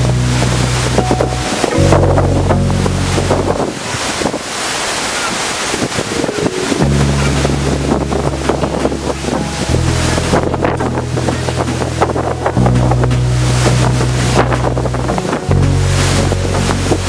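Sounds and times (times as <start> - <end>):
background music with deep bass: 0.0 - 3.8, 6.6 - 17.0
waterfall roaring: 0.0 - 17.0
wind buffeting microphone: 0.0 - 17.0.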